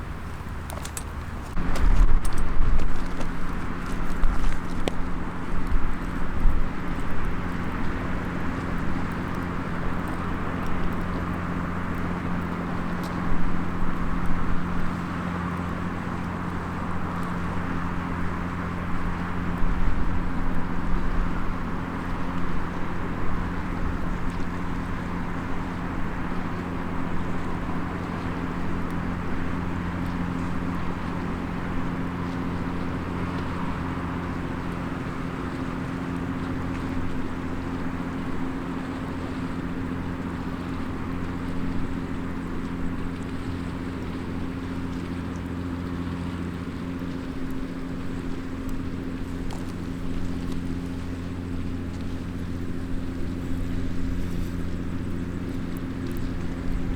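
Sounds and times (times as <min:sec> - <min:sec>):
low mechanical drone: 0:00.0 - 0:56.9
wood fire crackles: 0:00.0 - 0:56.9.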